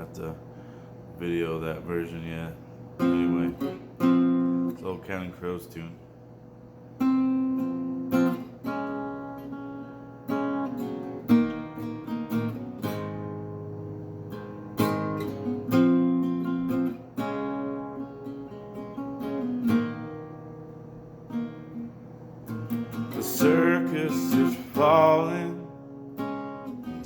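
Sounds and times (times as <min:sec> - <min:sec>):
acoustic guitar strumming: 0:00.5 - 0:05.2, 0:06.8 - 0:27.0.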